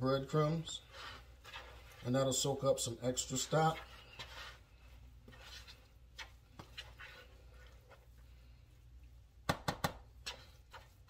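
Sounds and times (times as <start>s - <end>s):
spoon stirring and scraping: 0.0s - 9.4s, 10.0s - 11.0s.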